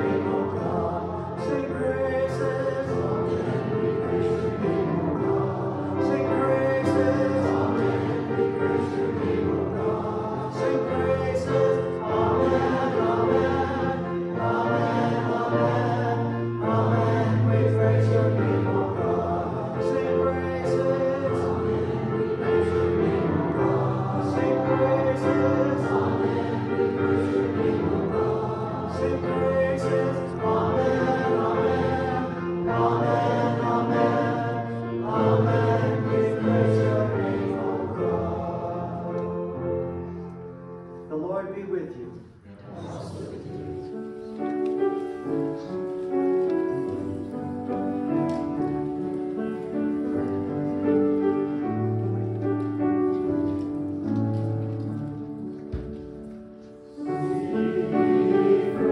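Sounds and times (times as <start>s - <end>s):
congregation singing a hymn: 0.0s - 58.9s.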